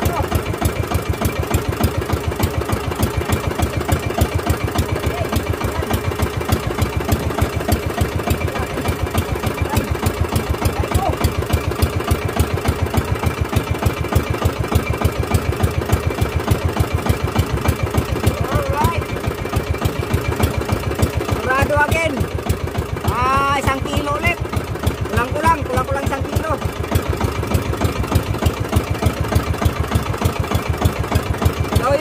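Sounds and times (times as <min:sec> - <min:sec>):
boat engine puttering: 0:00.0 - 0:32.0.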